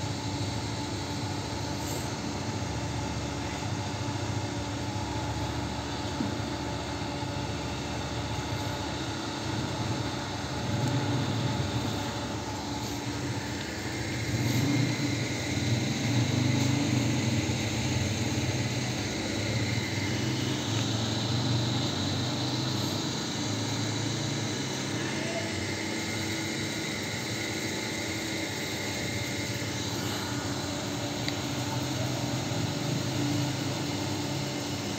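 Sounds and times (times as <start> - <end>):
engine droning: 0.0 - 34.9.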